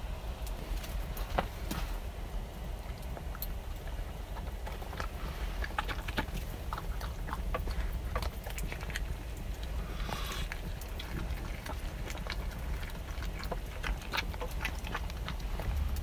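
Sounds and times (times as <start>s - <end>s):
steady low rumble: 0.0s - 16.0s
puppy chewing: 0.5s - 16.0s.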